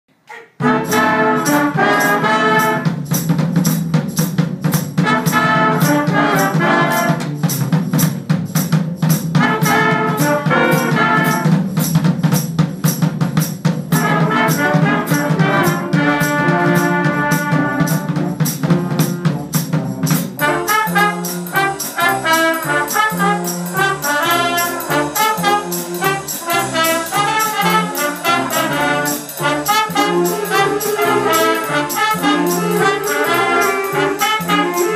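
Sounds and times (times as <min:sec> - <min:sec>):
jazz band playing swing: 0:00.3 - 0:34.9.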